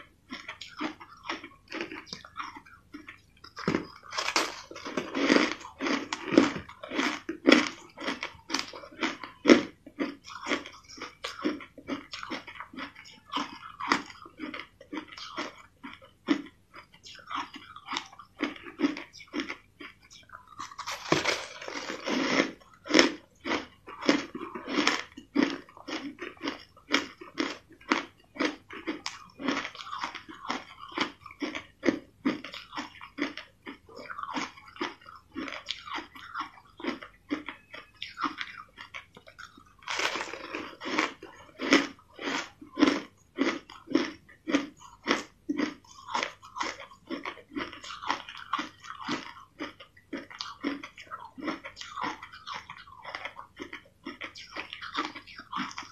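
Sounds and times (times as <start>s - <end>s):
crunching ice being chewed: 0.0s - 55.9s.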